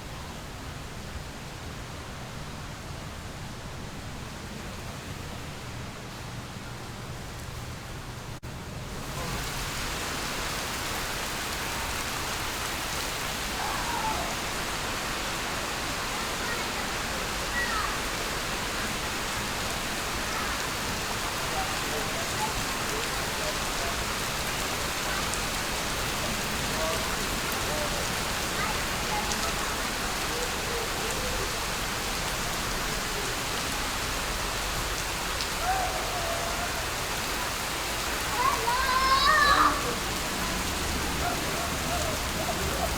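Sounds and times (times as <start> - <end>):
falling water rushing: 0.0 - 42.9.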